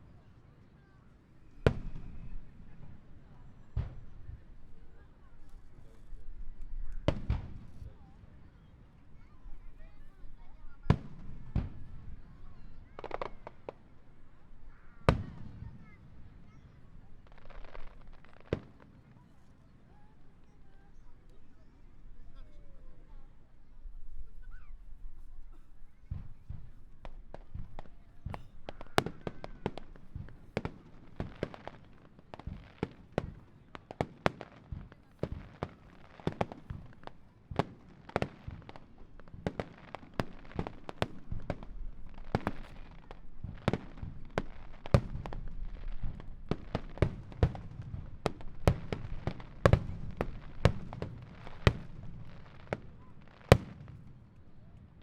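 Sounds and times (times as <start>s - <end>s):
fireworks bursting: 1.4s - 5.8s, 6.5s - 19.3s, 25.9s - 55.0s.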